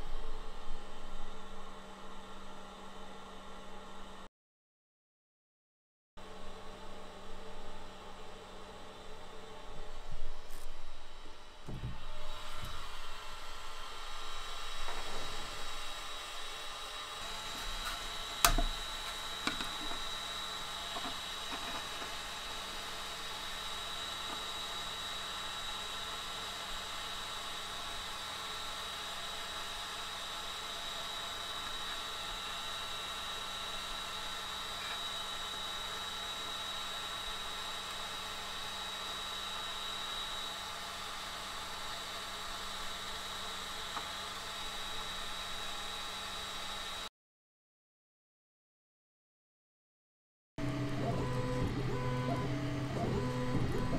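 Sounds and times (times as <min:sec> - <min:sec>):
cooling fans humming and whining: 0:06.2 - 0:47.0, 0:50.6 - 0:53.9.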